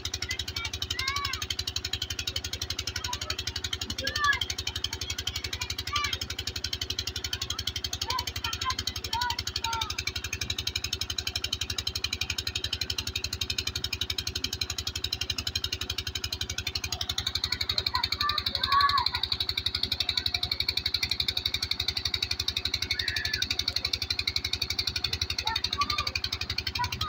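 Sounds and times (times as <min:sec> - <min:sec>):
pump engine chugging: 0:00.0 - 0:27.0.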